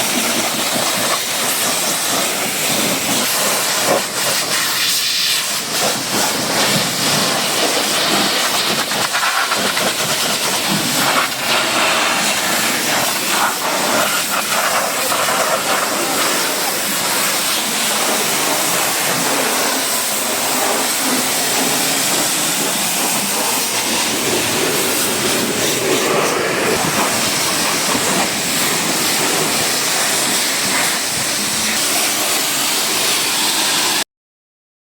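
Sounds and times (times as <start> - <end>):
pressure washer spray hissing: 0.0 - 34.0.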